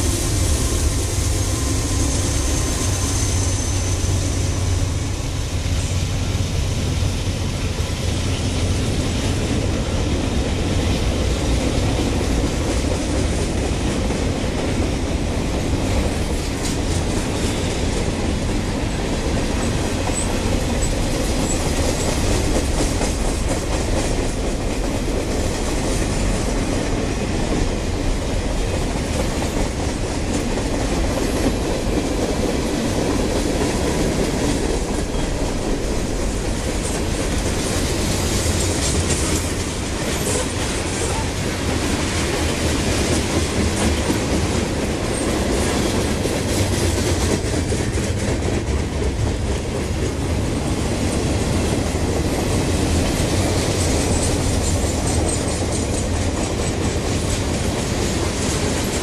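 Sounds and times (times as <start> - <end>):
steel wheels running on rails: 0.0 - 59.0.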